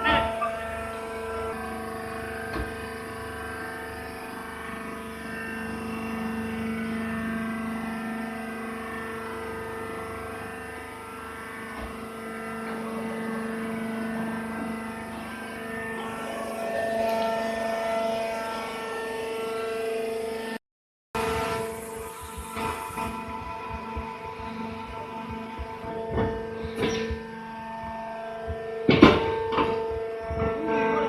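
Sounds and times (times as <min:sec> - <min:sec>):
baling machine droning: 0:00.0 - 0:20.6, 0:21.2 - 0:31.0.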